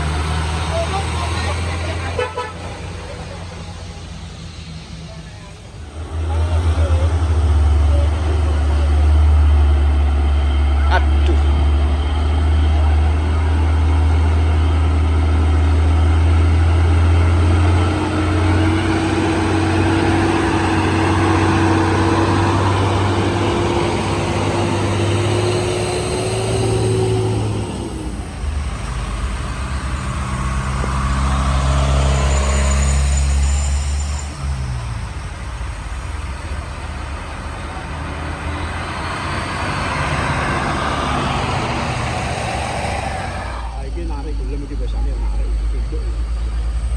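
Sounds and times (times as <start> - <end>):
diesel truck engines droning: 0.0 - 46.9
rising whine: 0.0 - 46.9.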